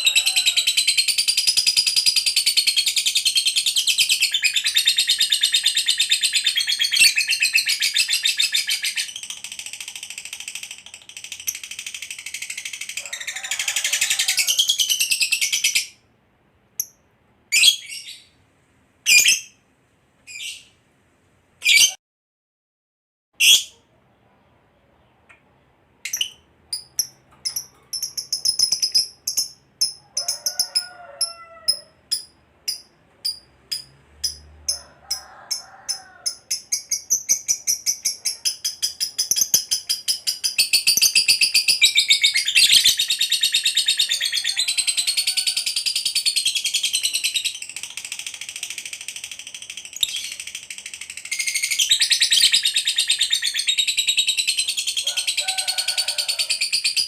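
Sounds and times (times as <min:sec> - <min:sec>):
lovebird calling and chattering: 0:00.0 - 0:16.0, 0:19.1 - 0:19.6, 0:23.4 - 0:23.7, 0:26.0 - 0:34.4, 0:35.9 - 0:57.0.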